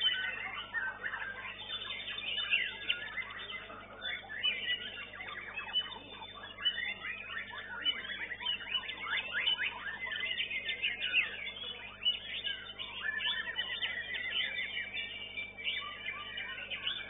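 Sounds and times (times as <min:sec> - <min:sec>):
bird singing varied whistles: 0:00.0 - 0:17.0.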